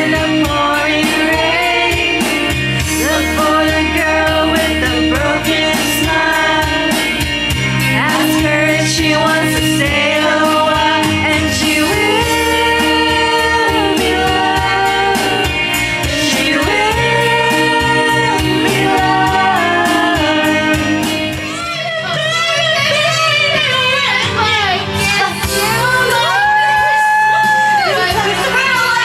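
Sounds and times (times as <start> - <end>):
karaoke backing track: 0.0 - 29.0
women singing karaoke: 0.0 - 29.0.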